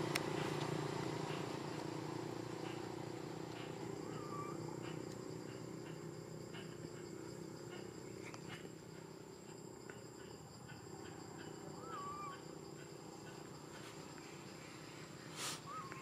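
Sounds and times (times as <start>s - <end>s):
small ticks: 0.0s - 14.4s
high insect drone: 0.0s - 16.0s.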